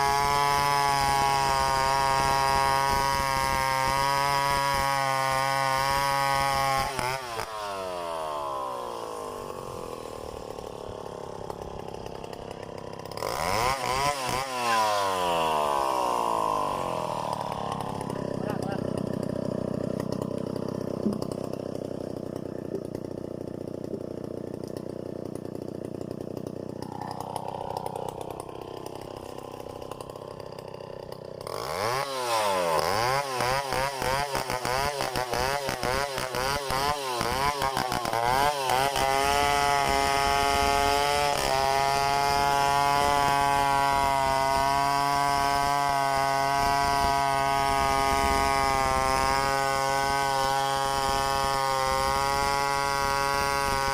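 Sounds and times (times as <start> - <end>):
chainsaw engine revving: 0.0 - 53.9.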